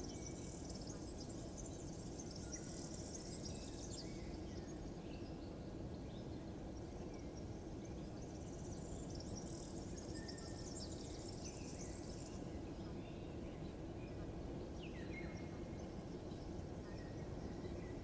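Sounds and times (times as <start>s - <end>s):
low rumble background noise: 0.0s - 18.0s.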